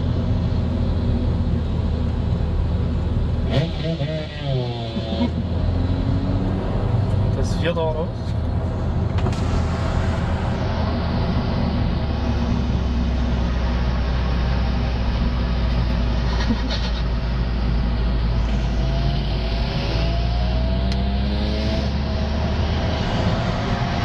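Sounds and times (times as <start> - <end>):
engine and road drone: 0.0 - 24.0.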